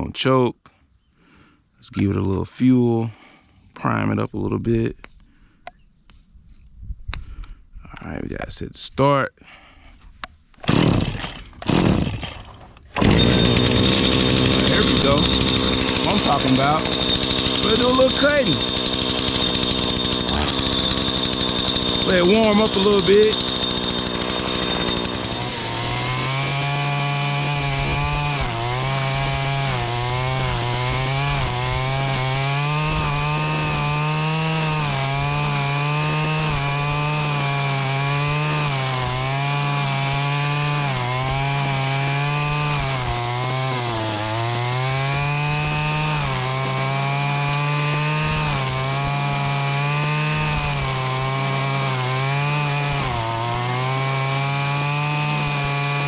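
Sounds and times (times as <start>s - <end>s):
string trimmer engine at high revs: 10.7s - 56.0s.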